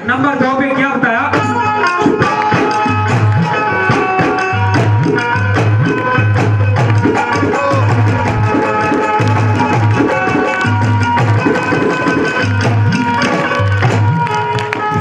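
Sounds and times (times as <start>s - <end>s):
dholak drum beating: 0.0s - 15.0s
keyboard holding melody notes: 0.0s - 15.0s.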